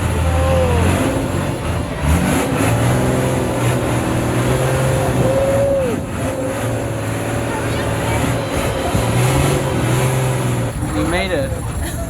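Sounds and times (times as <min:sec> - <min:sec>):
boat engine running hard: 0:00.0 - 0:12.0
rushing wind: 0:00.0 - 0:12.0.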